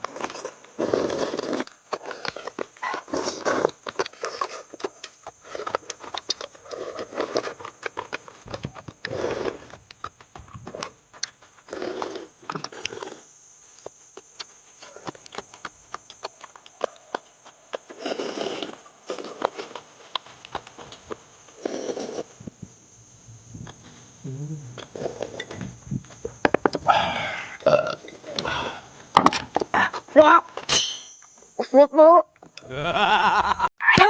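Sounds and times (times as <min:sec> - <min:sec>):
people chewing and slurping: 0:00.0 - 0:22.6, 0:23.3 - 0:30.2.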